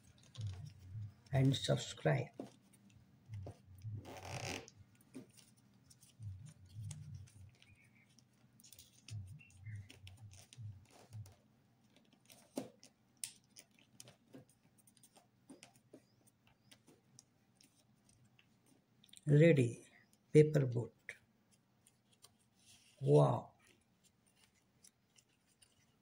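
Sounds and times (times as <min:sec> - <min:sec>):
paper crinkling: 0:00.0 - 0:18.8, 0:21.5 - 0:26.0.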